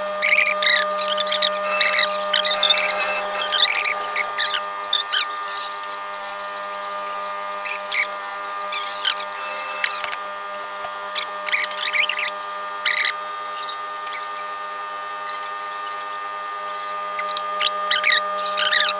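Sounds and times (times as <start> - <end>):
steady machine hum: 0.0 - 18.9
short high squeaks: 0.2 - 10.2, 11.1 - 18.9.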